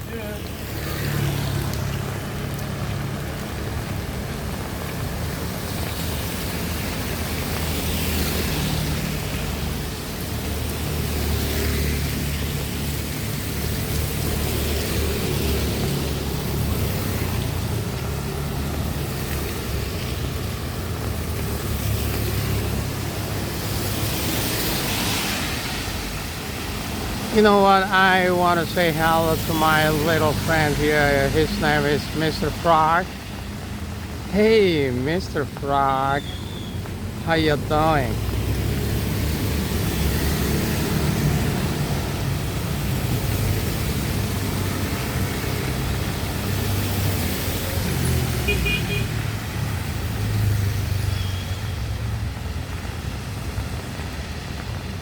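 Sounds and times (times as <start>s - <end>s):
passing traffic hum: 0.0s - 55.0s
rain hiss: 0.0s - 55.0s.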